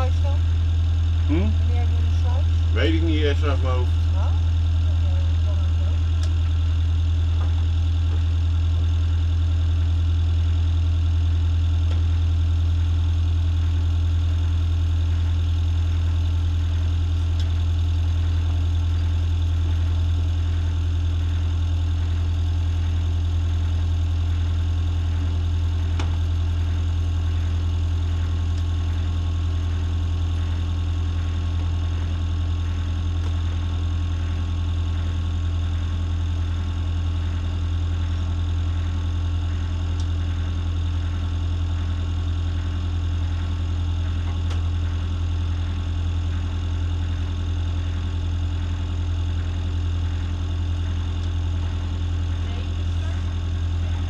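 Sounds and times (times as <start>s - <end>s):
motor boat engine droning: 0.0s - 54.0s.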